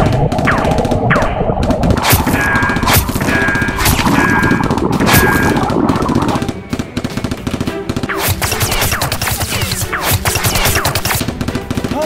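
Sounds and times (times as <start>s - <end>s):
rapid automatic gunfire: 0.0s - 12.0s.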